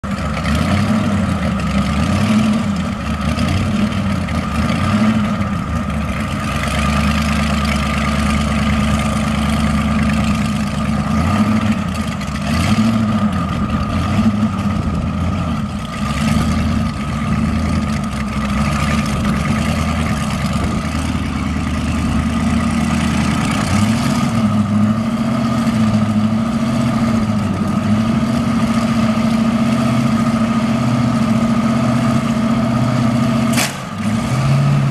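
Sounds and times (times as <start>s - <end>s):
dragster engine idling: 0.0s - 34.0s.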